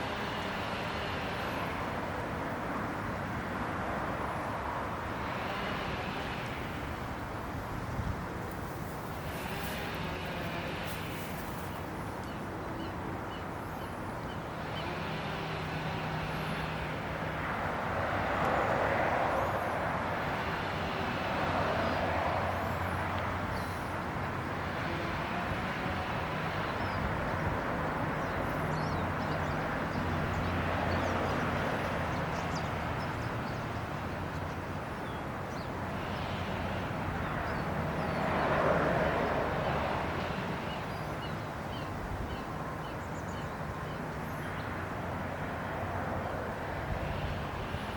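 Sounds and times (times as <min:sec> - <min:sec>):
traffic noise: 0:00.0 - 0:47.9
vehicles passing: 0:00.0 - 0:47.9.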